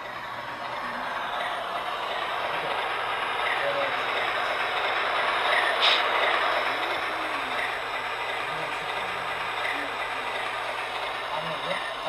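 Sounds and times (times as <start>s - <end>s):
model train wheels rolling on rails: 0.0s - 12.0s.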